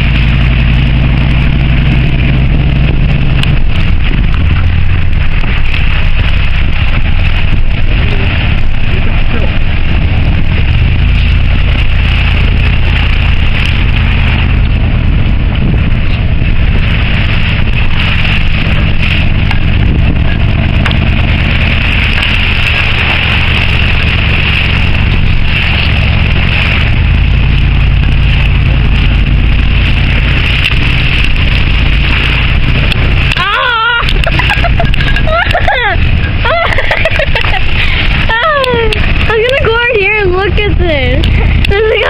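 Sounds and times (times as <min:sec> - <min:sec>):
vehicle engine and road drone: 0:00.0 - 0:42.0.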